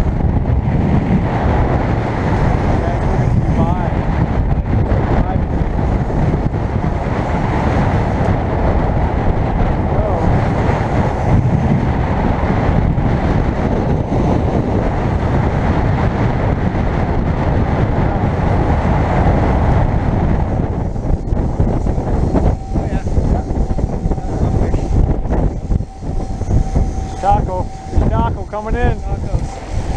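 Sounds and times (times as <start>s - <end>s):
boat engine drone: 0.0s - 29.9s
wind buffeting microphone: 0.0s - 29.9s.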